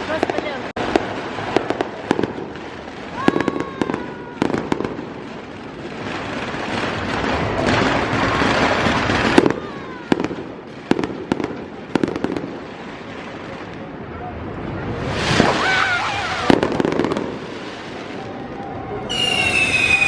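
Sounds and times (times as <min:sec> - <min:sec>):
fireworks bangs and pops: 0:00.0 - 0:20.0
fireworks hissing crackle: 0:00.0 - 0:20.0.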